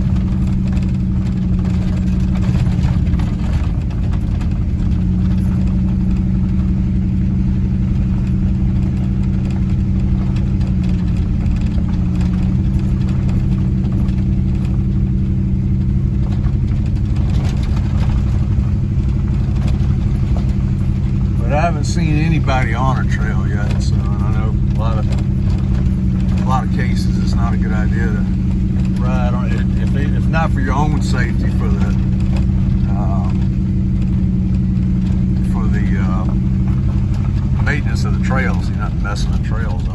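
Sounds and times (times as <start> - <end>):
truck engine running: 0.0 - 39.9
tyre and road noise: 0.0 - 39.9.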